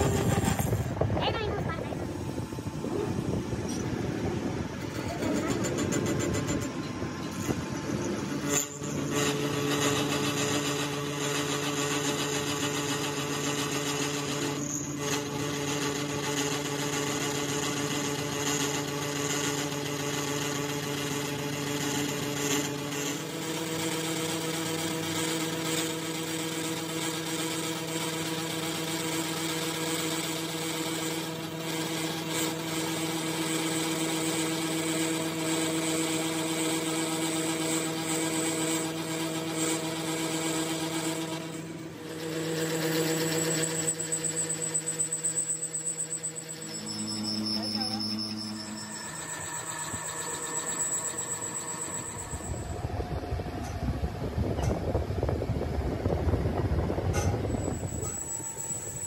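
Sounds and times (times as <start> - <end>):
electric motor humming: 0.0 - 59.0
machine cutting noise: 0.0 - 59.0.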